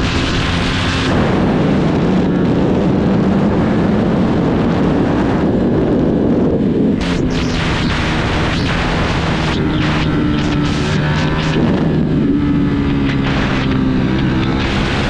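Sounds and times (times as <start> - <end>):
motorcycle engine running hard: 0.0 - 15.0
wind buffeting microphone: 0.0 - 15.0.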